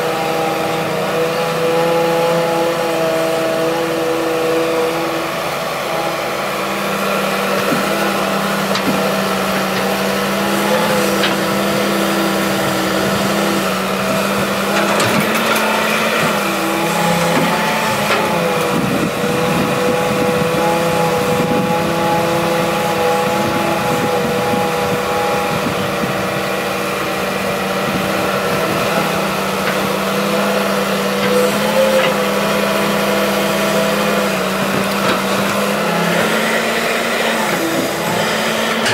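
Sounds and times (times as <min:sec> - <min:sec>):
excavator diesel engine drone: 0:00.0 - 0:38.9.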